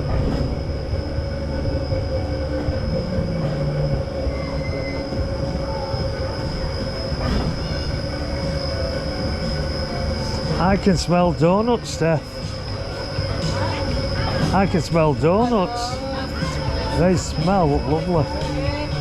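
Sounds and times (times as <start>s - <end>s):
machinery whining and rumbling: 0.0s - 19.0s.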